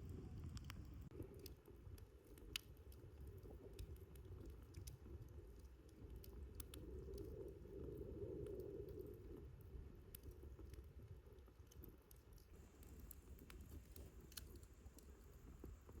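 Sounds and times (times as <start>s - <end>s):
campfire flame rumble: 0.0s - 16.0s
fire crackles and pops: 0.0s - 16.0s.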